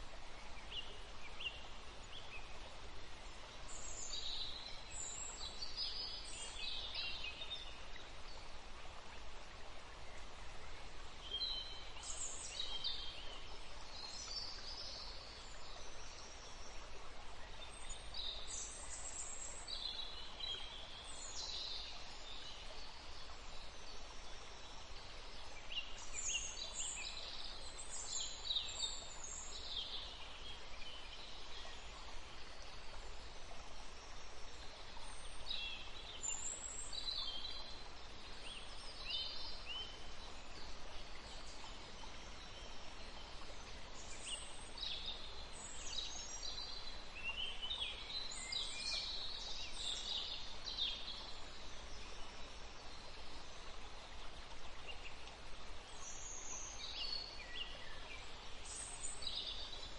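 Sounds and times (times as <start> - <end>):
songbirds chirping: 0.0 - 59.9
steady low background noise: 0.0 - 59.9.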